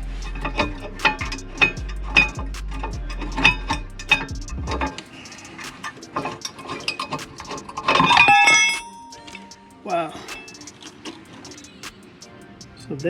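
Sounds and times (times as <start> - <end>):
metal tools clinking: 0.4 - 11.8
metallic clatter with ringing: 0.4 - 11.8.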